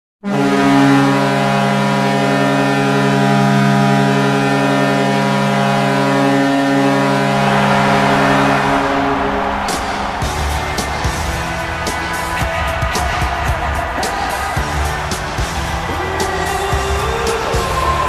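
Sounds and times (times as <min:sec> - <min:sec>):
deep goal horn blast: 0:00.2 - 0:18.0.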